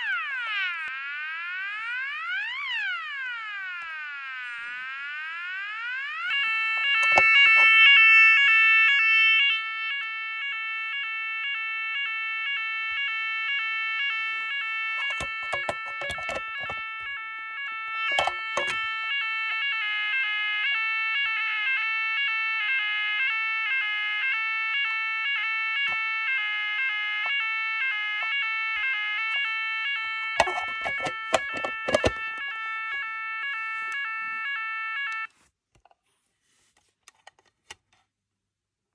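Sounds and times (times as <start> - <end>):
fire alarm pulsing tone: 0.0 - 35.3.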